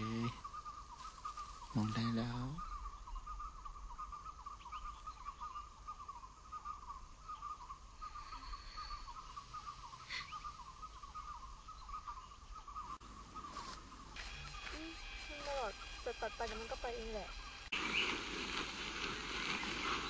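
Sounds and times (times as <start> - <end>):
jungle wildlife chirring: 0.0 - 20.0.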